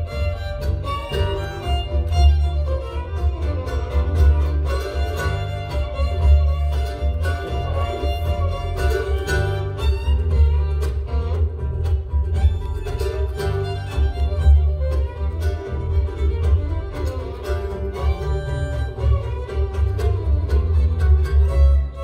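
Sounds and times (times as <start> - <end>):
fiddle: 0.0 - 22.0
mandolins picking: 0.0 - 22.0
upright bass: 0.0 - 22.0.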